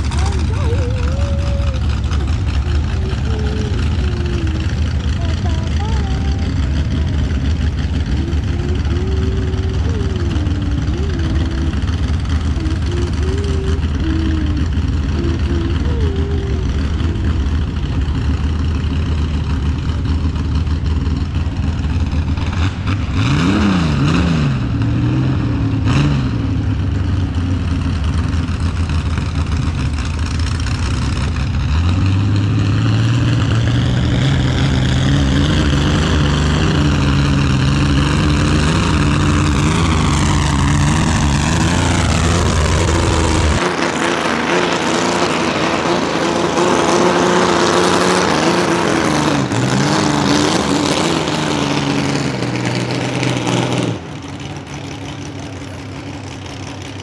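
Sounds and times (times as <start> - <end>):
tractor engine revving: 0.0 - 57.0.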